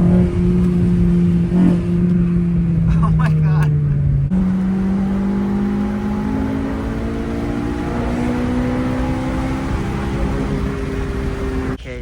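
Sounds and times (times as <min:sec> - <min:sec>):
car engine accelerating: 0:00.0 - 0:11.8.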